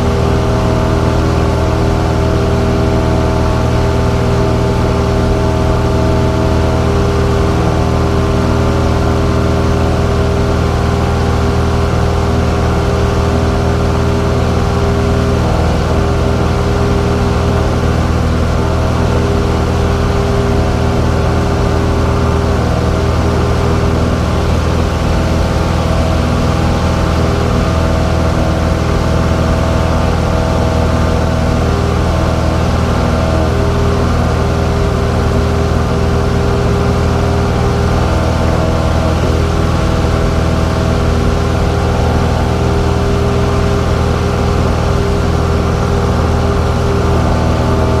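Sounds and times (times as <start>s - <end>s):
airplane engine drone in cockpit: 0.0s - 48.0s.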